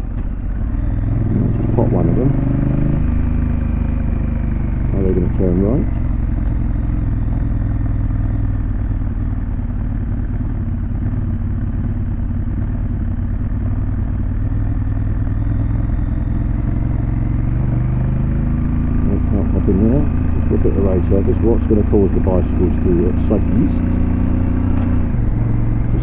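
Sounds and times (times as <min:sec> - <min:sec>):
motorcycle engine running steadily: 0:00.0 - 0:26.0.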